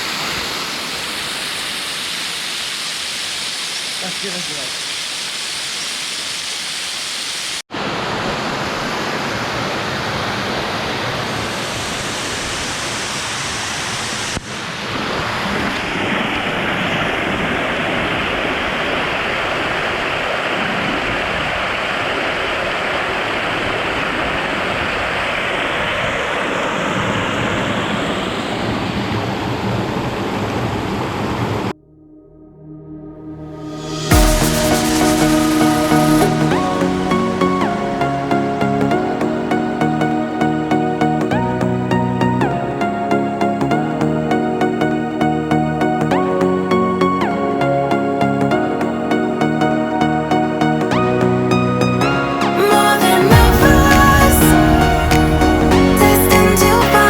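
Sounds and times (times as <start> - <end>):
waterfall rushing: 0.0 - 30.1, 33.8 - 57.0.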